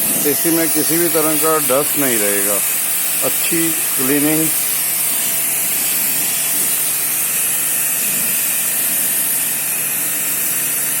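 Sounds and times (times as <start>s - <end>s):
water jet spraying: 0.0s - 11.0s.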